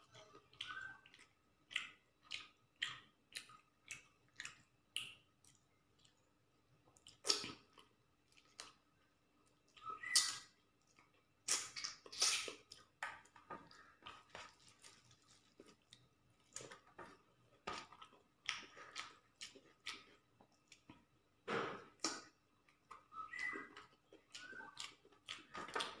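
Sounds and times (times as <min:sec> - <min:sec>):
man chewing and smacking: 0:00.0 - 0:26.0.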